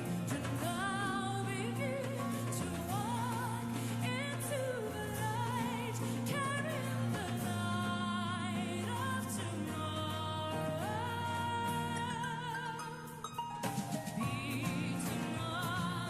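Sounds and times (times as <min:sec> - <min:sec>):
woman singing with vibrato: 0:00.0 - 0:13.4, 0:14.2 - 0:16.0.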